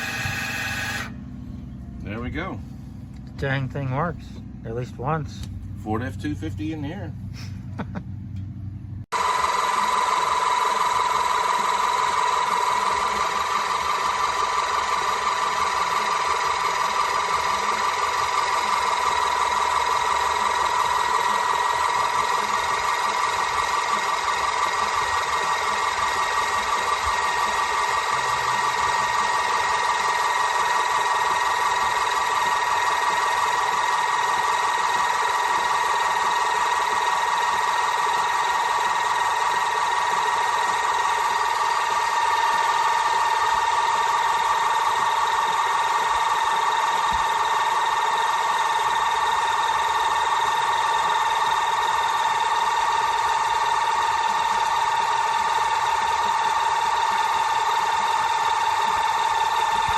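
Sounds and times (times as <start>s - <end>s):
hydraulic pump whining: 0.0s - 4.5s, 9.1s - 59.9s.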